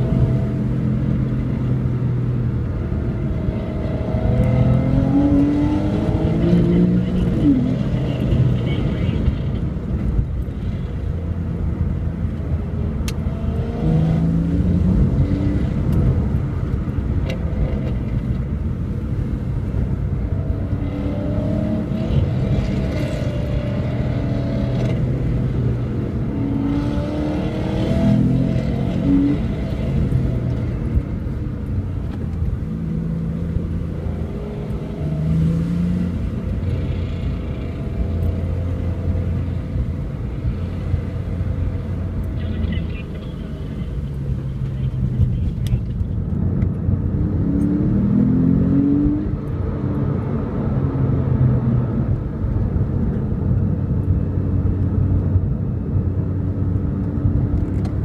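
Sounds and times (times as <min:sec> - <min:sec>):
car engine accelerating: 0:00.0 - 0:58.0
road drone: 0:00.0 - 0:58.0.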